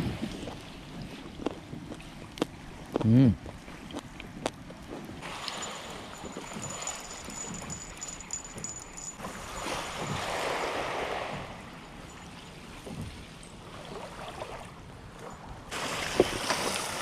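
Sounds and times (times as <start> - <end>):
small waves washing on shore: 0.0 - 17.0.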